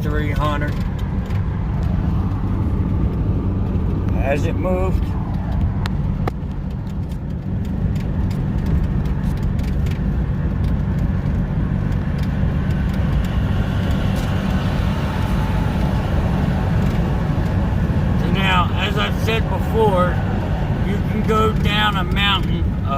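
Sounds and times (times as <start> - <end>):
diesel engine with exhaust brake: 0.0 - 22.9.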